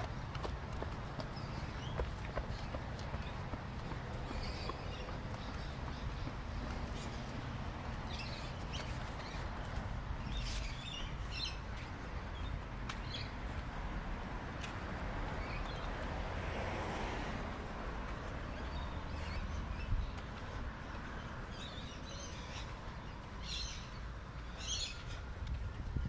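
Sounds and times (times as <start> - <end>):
birds chirping: 0.0 - 13.7, 18.0 - 26.0.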